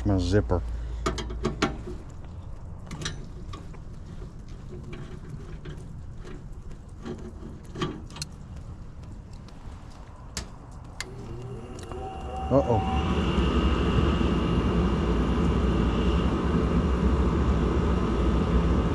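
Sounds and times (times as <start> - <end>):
low steady rumble: 0.0 - 18.9.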